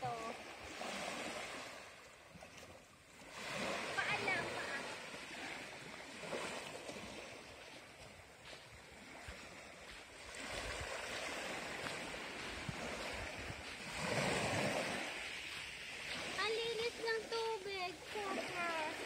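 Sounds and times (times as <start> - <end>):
sea waves washing onto shore: 0.0 - 19.0.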